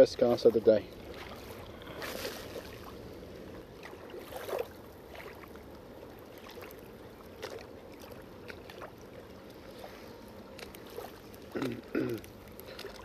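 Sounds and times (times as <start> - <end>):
water washing: 0.0 - 13.0
wind: 0.0 - 13.0.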